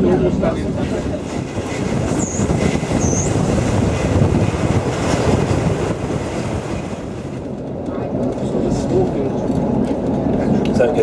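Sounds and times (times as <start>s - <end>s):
train wheels rumbling: 0.0s - 11.0s
wind buffeting microphone: 0.0s - 11.0s.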